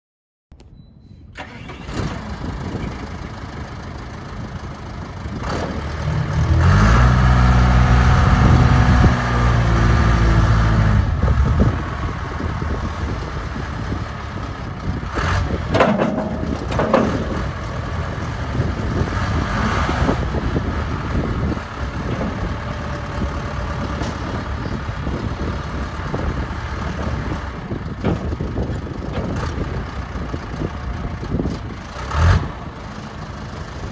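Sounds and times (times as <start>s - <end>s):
diesel engine starting and revving: 1.3s - 33.9s.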